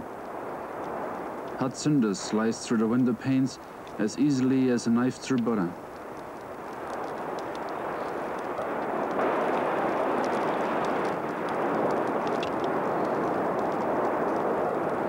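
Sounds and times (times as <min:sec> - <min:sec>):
faint crackles: 0:00.0 - 0:15.0
volcanic eruption roar: 0:00.0 - 0:15.0.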